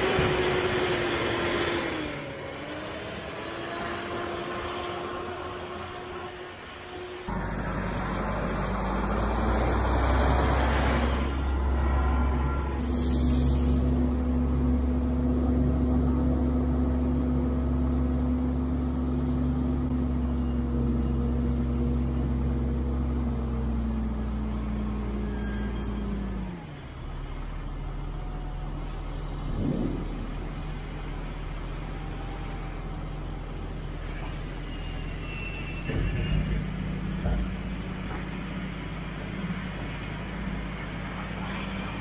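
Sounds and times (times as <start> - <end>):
diesel engine running: 0.0 - 34.8.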